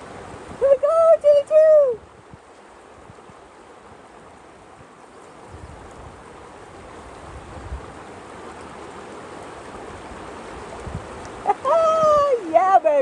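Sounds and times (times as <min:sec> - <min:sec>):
rushing river rapid: 0:00.0 - 0:13.0.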